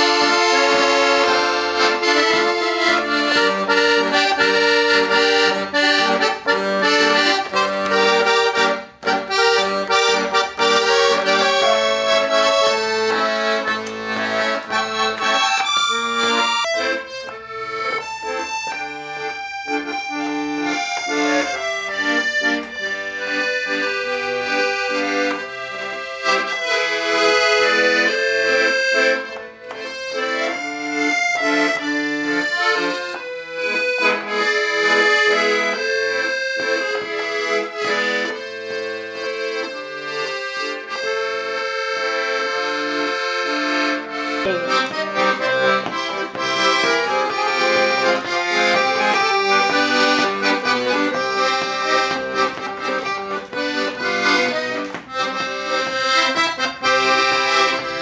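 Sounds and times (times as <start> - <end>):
piano accordion playing a tune: 0.0 - 58.0.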